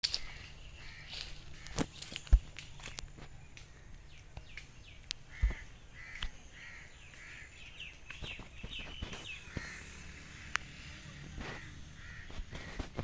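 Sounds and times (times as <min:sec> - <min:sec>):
high bird chirps: 0:00.0 - 0:10.8
harsh bird calls: 0:00.0 - 0:13.0.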